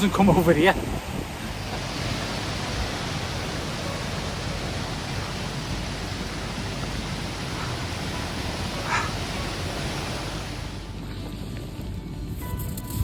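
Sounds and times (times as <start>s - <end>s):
rain: 0.0s - 11.7s
wind: 0.0s - 13.0s.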